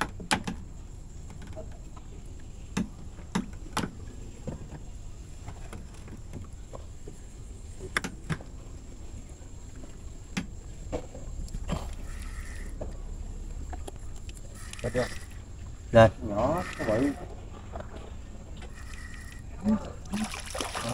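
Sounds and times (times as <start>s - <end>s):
low steady rumble: 0.0s - 20.9s.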